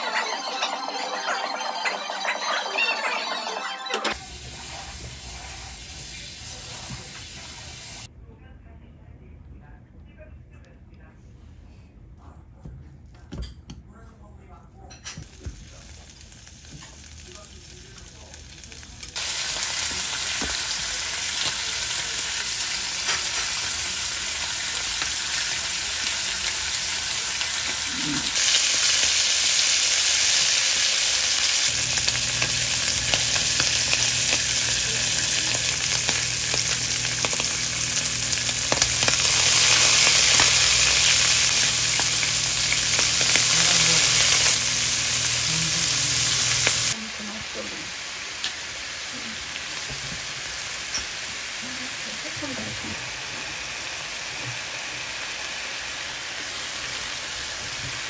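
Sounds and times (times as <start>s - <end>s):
meat sizzling in a pan: 4.2s - 8.1s, 15.2s - 58.0s.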